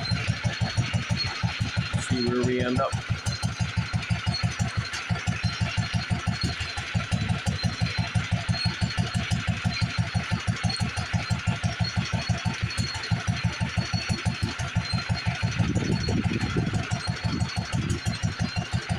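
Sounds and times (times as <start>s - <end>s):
stationary engine running: 0.0s - 18.9s.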